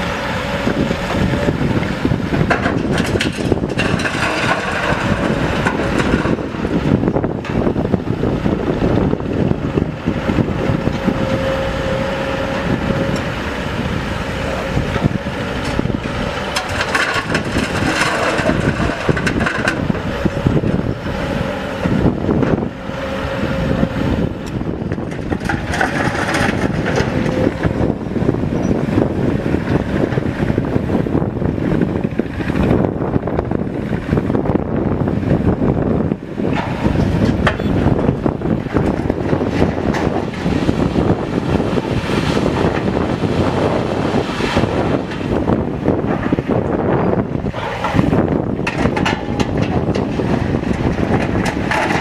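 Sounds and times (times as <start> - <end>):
heavy diesel machinery running: 0.0 - 52.0
steady machine whine: 0.0 - 52.0.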